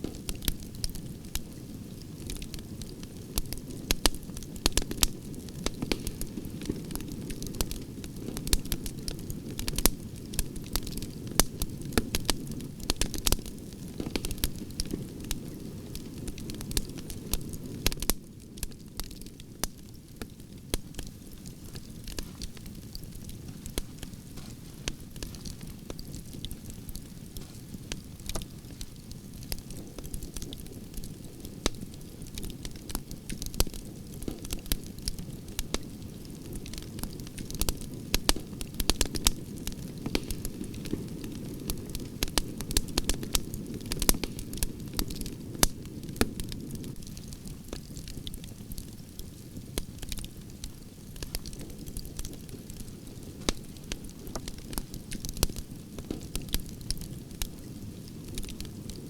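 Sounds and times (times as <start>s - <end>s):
burning wood crackling and popping: 0.0s - 59.0s.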